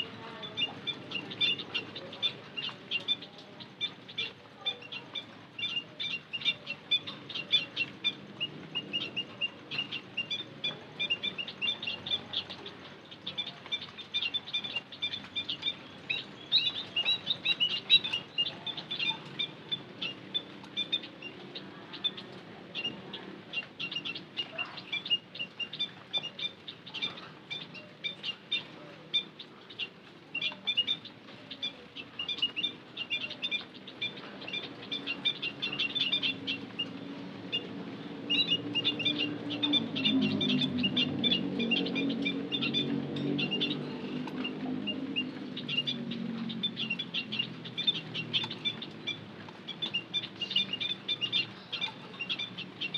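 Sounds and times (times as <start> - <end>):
munias chirping: 0.0 - 52.9.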